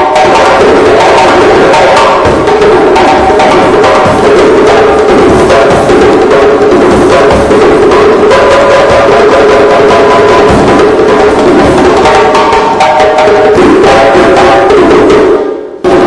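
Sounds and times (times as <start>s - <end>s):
djembes played by hand: 0.0s - 16.0s.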